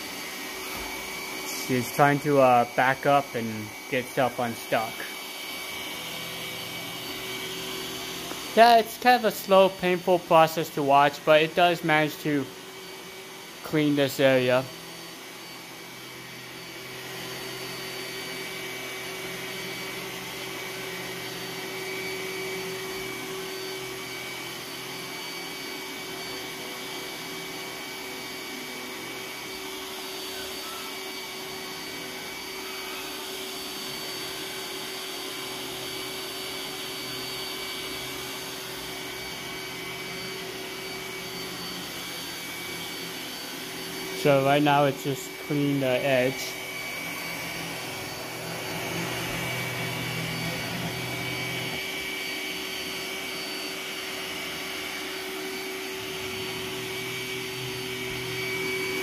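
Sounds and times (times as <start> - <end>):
robot vacuum whirring: 0.0 - 59.0.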